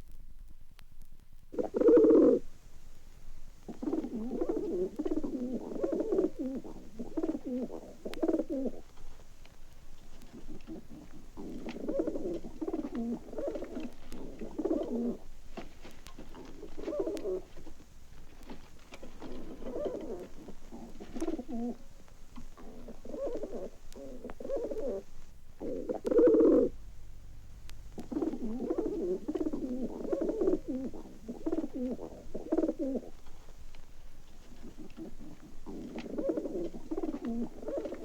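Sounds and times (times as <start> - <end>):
pigeons cooing: 1.6 - 2.5, 3.5 - 9.2, 9.9 - 26.9, 27.8 - 38.0.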